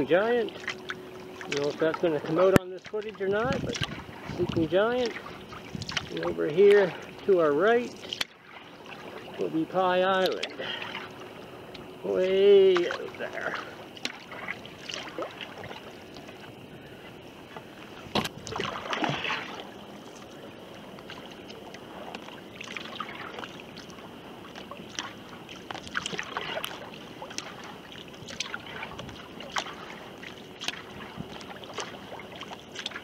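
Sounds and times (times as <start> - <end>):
hiss of water and wind: 0.0 - 33.0
paddle splashing water: 0.0 - 33.0.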